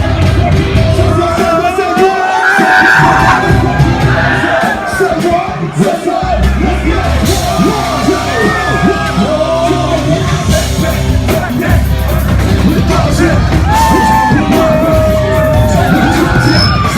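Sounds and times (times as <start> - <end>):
rap music through loud pa: 0.0 - 16.9
voices yelling and singing: 0.0 - 16.9.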